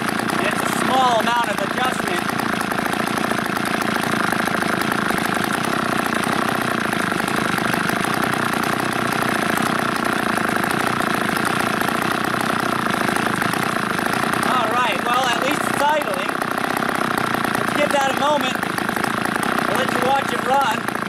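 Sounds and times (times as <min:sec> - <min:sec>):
chainsaw engine running: 0:00.0 - 0:21.0.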